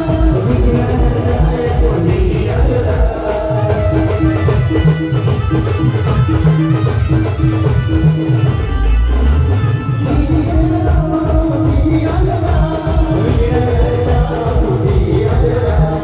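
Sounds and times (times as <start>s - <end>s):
heavy drum beats: 0.0s - 16.0s.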